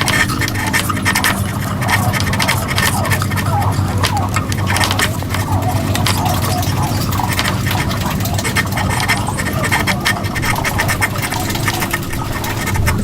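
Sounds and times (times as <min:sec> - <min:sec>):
steady low hum: 0:00.0 - 0:13.0
tool scraping wood: 0:00.0 - 0:13.0.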